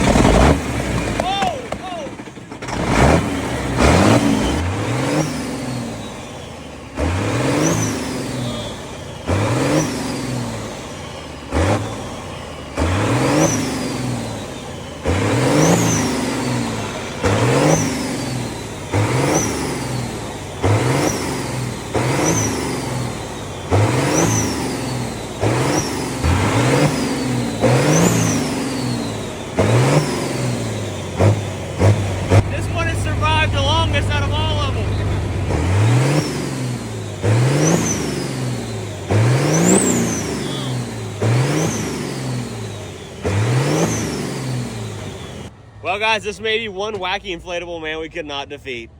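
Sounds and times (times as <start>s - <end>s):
truck diesel engine revving: 0.0s - 48.6s.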